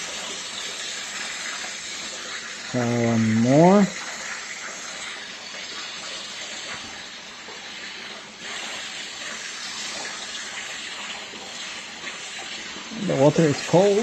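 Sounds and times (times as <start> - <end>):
coolant water flowing and splashing: 0.0 - 14.0.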